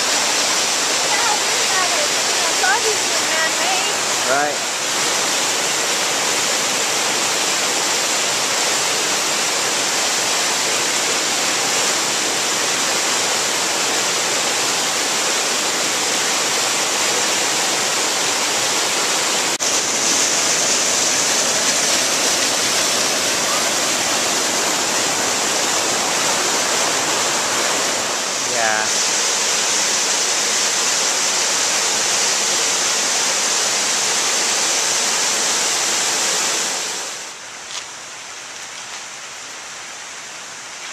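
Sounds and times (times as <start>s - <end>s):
creek rushing over rocks: 0.0s - 40.9s.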